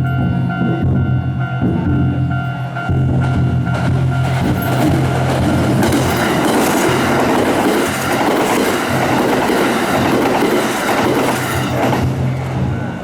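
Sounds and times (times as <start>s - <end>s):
train wheels clattering on rails: 0.6s - 13.0s.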